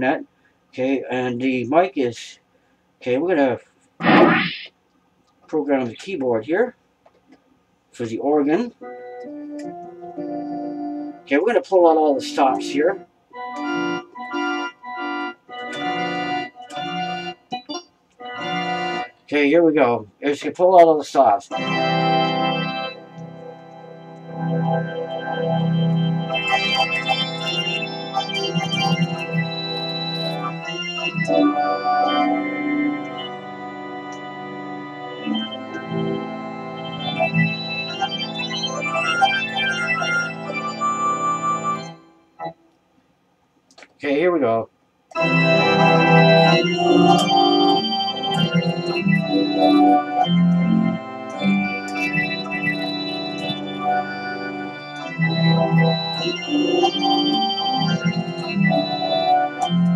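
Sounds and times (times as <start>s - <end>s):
electronic organ chords: 4.0s - 4.7s, 8.2s - 20.0s, 21.2s - 42.6s, 45.1s - 59.9s.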